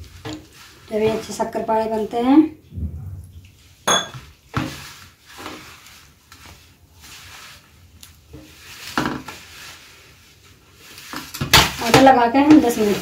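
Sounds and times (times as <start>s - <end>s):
hand rubbing flour on steel plate: 0.0s - 2.4s, 3.5s - 13.0s.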